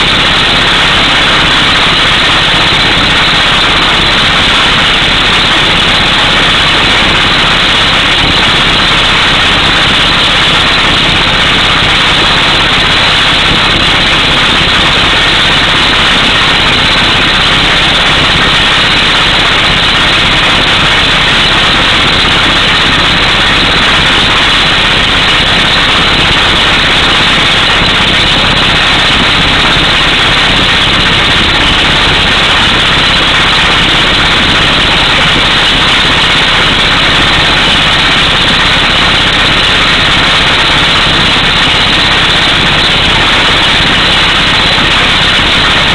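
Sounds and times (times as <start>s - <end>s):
engine running: 0.0s - 45.9s
pneumatic hammer drilling rock: 0.0s - 45.9s.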